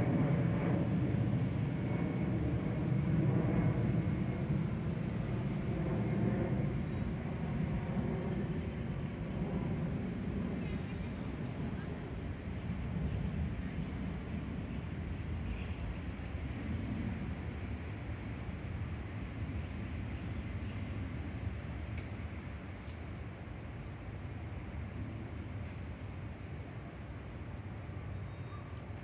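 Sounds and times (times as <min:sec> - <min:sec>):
jet airliner rumble overhead: 0:00.0 - 0:29.0.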